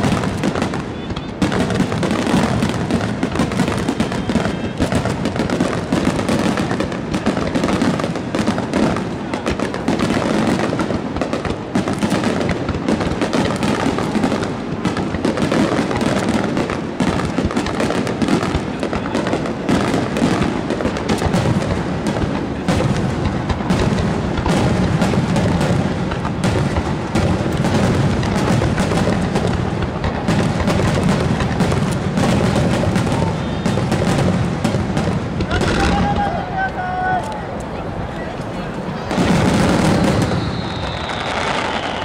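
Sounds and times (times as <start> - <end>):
fireworks booming and crackling: 0.0 - 42.0.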